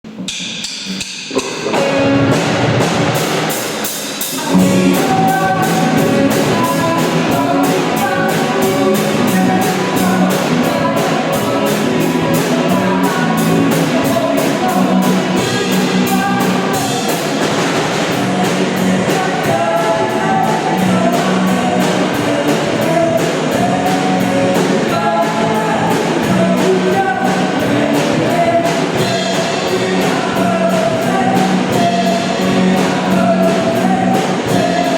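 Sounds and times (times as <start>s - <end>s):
band playing song with vocals: 1.3s - 34.9s.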